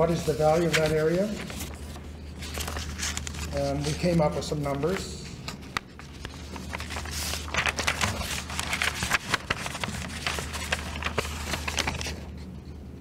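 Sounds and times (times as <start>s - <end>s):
paper rustling and crinkling: 0.0s - 12.5s
low steady hum: 0.0s - 13.0s.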